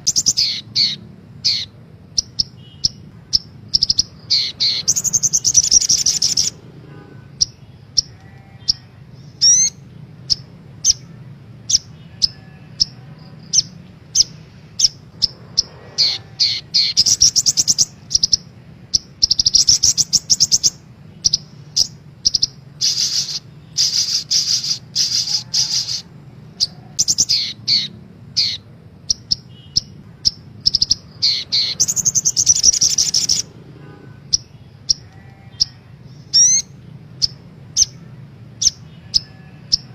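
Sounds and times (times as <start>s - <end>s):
bird chirping and trilling: 0.0s - 39.9s
steady low hum: 0.0s - 39.9s.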